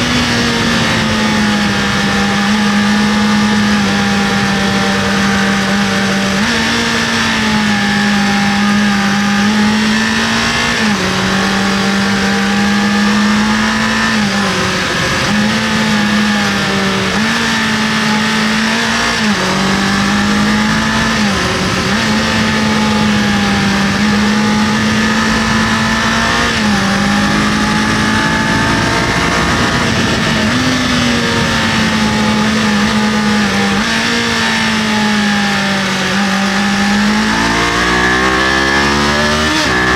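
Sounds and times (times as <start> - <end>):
motorcycle engine: 0.0 - 39.9
wind noise on microphone: 0.0 - 39.9.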